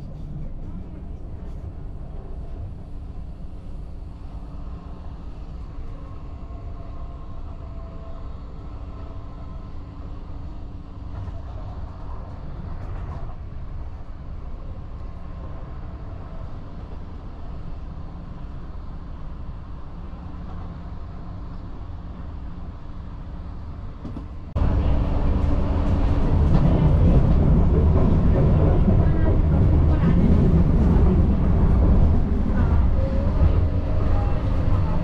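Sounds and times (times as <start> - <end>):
train running on track: 0.0 - 35.0.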